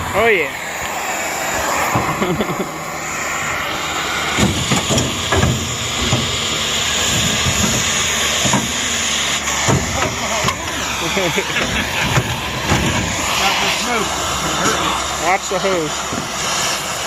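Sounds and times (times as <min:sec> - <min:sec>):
cutting torch hissing: 0:00.0 - 0:17.0.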